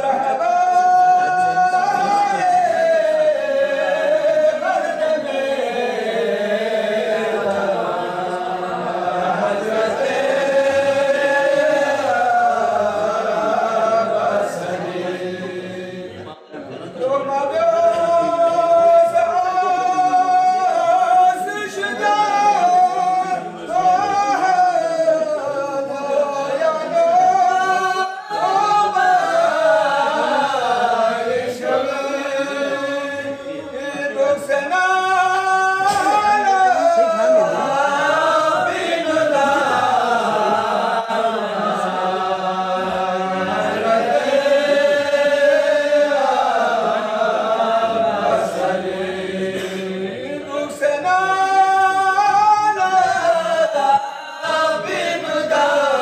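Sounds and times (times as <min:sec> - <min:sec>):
men singing unaccompanied chant: 0:00.0 - 0:56.0.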